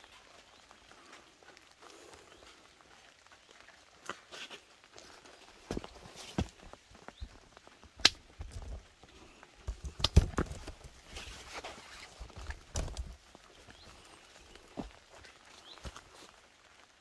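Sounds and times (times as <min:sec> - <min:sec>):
footsteps on wet ground: 0:00.0 - 0:17.0.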